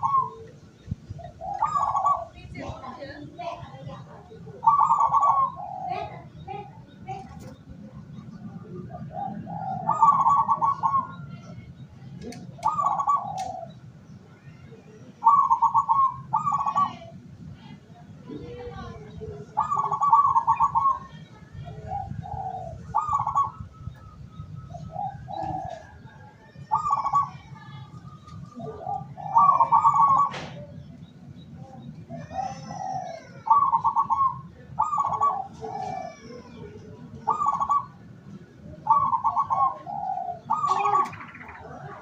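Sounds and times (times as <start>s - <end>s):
doves cooing: 0.0s - 42.0s
small birds chirping: 0.0s - 42.0s.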